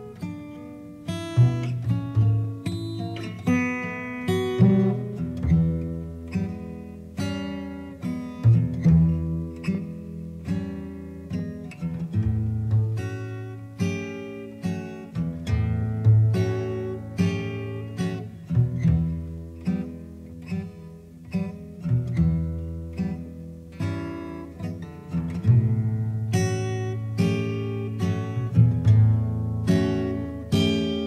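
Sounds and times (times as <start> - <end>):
acoustic guitar playing blues: 0.0 - 31.0.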